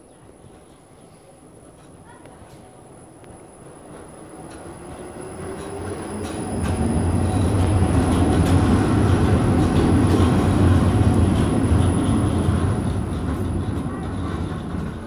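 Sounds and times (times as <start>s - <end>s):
tram rumbling past: 0.1s - 15.0s.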